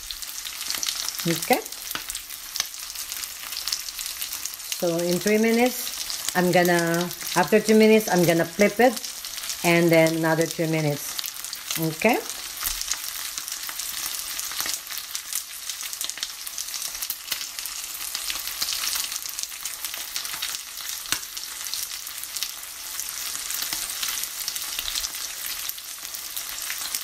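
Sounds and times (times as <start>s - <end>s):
steak sizzling in frying pan: 0.0s - 27.0s.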